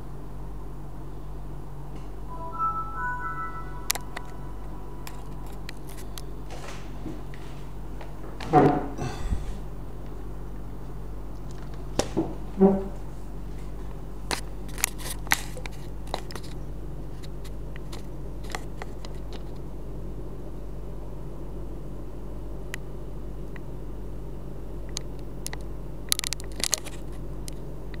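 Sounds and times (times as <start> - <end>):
low electrical hum: 3.7 - 28.0.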